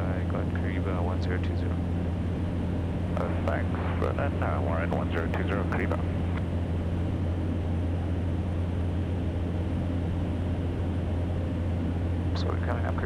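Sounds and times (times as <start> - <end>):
turboprop engine drone: 0.0 - 13.0.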